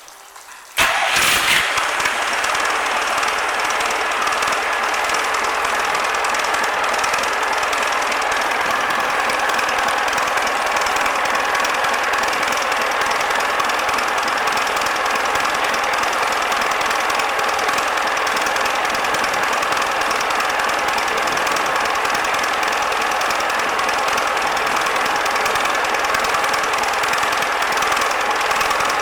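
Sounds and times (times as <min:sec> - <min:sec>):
diesel engine clattering: 0:00.8 - 0:29.0.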